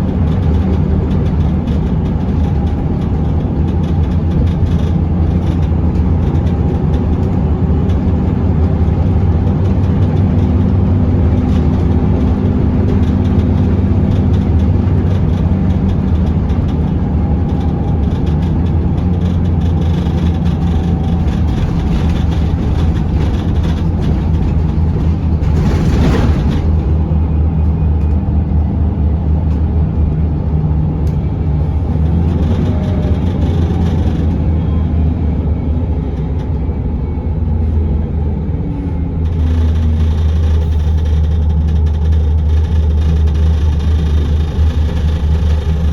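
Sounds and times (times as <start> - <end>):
bus engine droning: 0.0 - 45.9.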